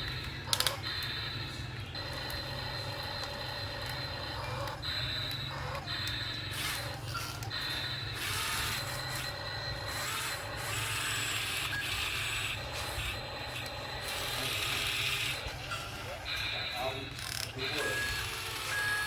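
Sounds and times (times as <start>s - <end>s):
excavator low hum: 0.0s - 19.0s.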